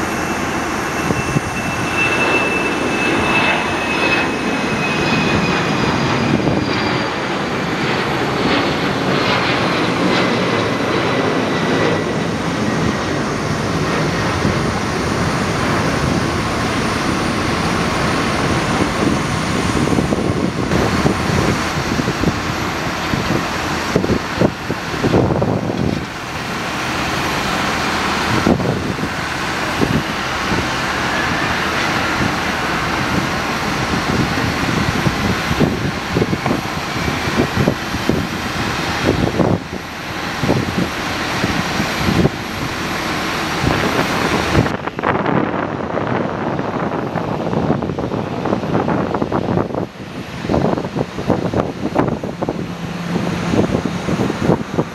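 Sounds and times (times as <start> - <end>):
faint rising whine: 0.0 - 45.7
jet engines hissing and whining: 0.0 - 54.9
low rumbles: 0.0 - 54.9.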